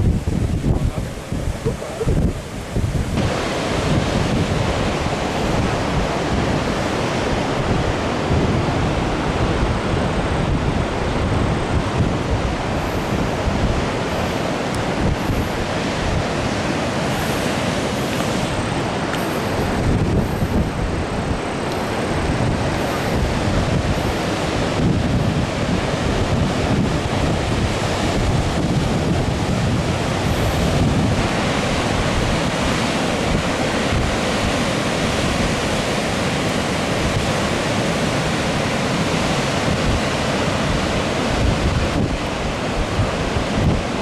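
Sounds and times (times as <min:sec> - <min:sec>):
high waves crashing: 0:00.0 - 0:44.0
wind buffeting microphone: 0:00.0 - 0:44.0.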